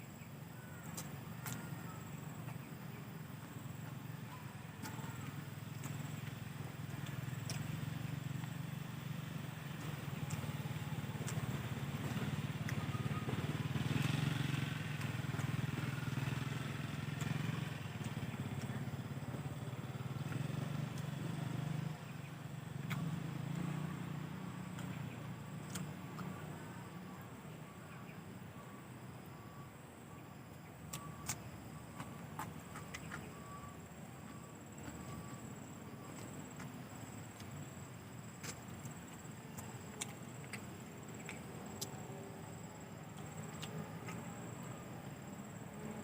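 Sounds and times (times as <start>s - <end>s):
engine droning: 0.0s - 46.0s.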